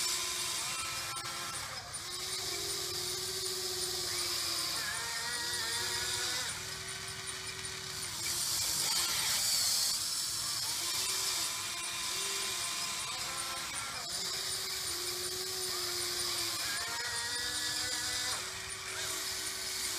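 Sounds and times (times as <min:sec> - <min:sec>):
small electric motors whining: 0:00.0 - 0:19.9.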